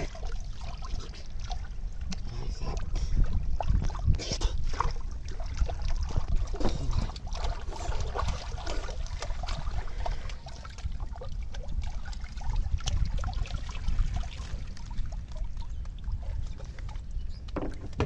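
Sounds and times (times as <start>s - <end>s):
fish splashing in water: 3.4s - 18.0s.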